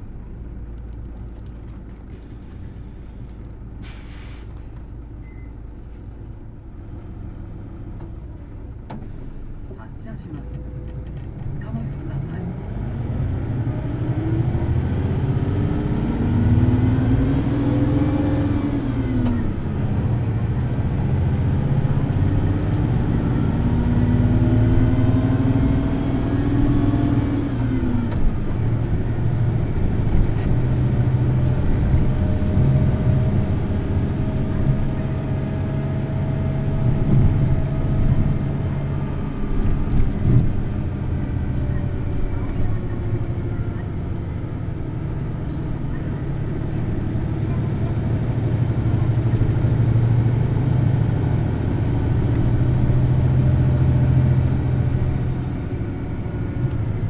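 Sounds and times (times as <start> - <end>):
bus engine at high revs: 0.0 - 57.0.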